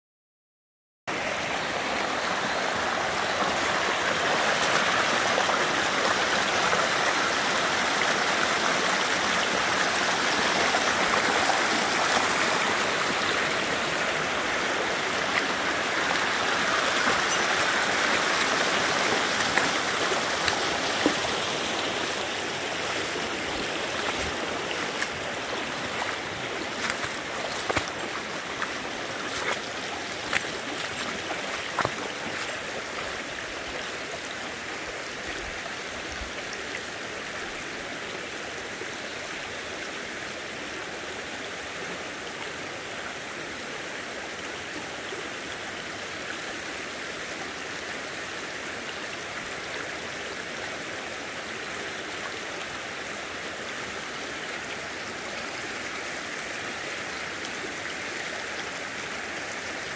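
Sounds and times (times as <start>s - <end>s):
stream running over rocks: 1.1s - 59.9s.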